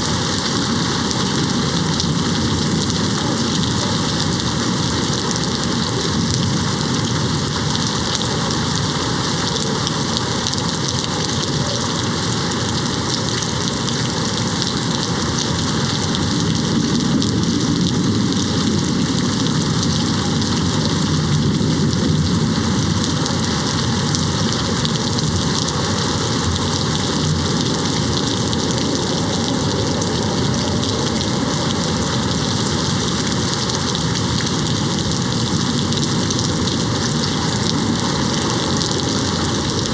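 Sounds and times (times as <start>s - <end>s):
rain beating on window: 0.0s - 39.9s.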